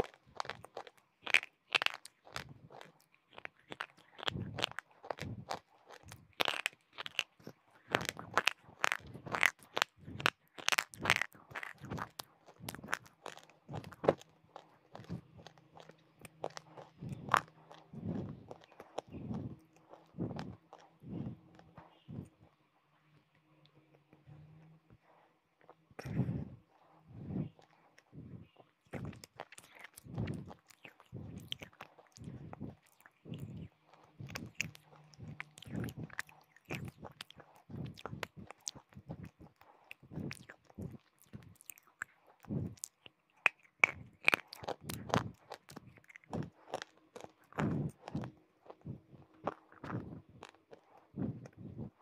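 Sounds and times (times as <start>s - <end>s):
chewing crunchy food: 0.0s - 52.0s.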